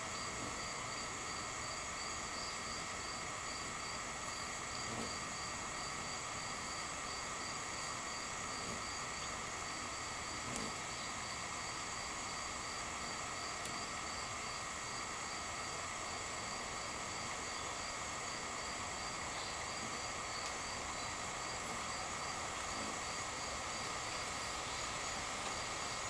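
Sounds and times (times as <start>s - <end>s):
insect drone: 0.0s - 26.0s
pulsing insect call: 0.0s - 26.0s.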